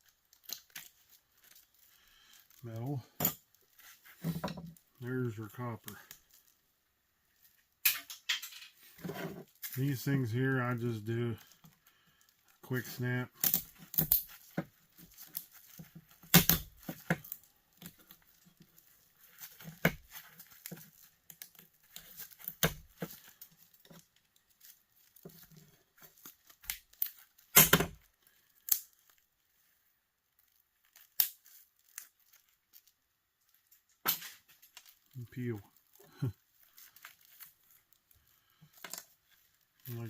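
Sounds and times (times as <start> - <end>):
tearing and crinkling: 0.0 - 7.8, 8.8 - 40.0.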